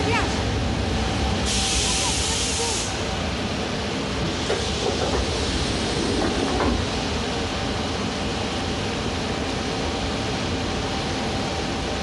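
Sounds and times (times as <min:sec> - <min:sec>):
train rumble and hiss: 0:00.0 - 0:12.0.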